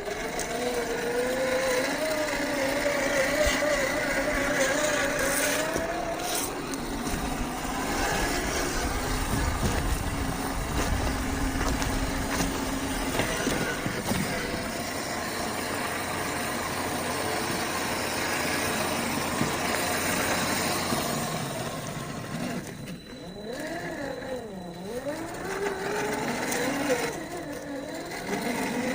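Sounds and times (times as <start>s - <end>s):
electric motor whining: 0.0s - 28.9s.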